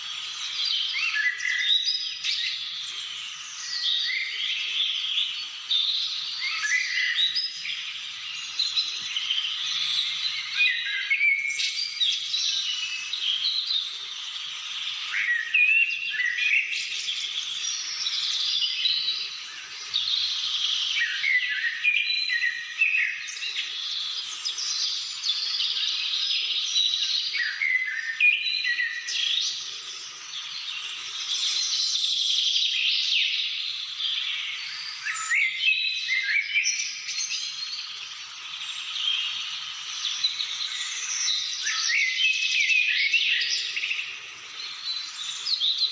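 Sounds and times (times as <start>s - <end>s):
birds chirping and whistling: 0.0s - 45.9s.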